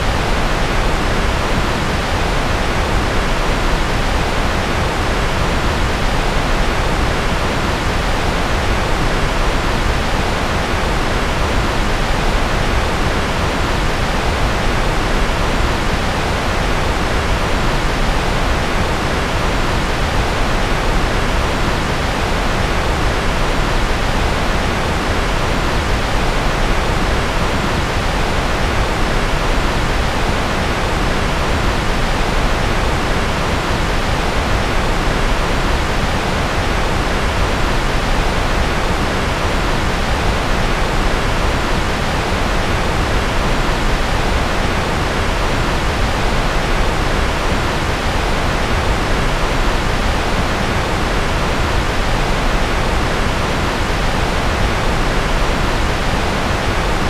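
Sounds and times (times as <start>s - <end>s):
steady pink noise: 0.0s - 57.0s.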